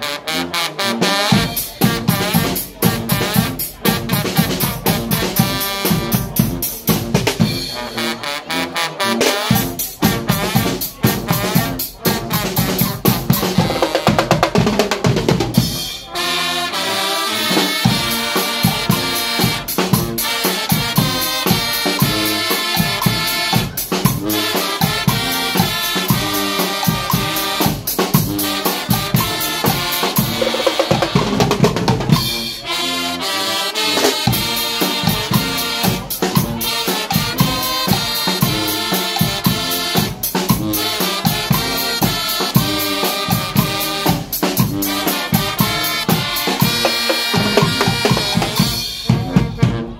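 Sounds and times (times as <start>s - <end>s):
brass band playing: 0.0s - 49.9s
drum kit with snare and cymbals: 0.0s - 49.9s
bass drums: 1.3s - 7.8s, 9.5s - 16.1s, 17.8s - 32.6s, 34.3s - 49.9s.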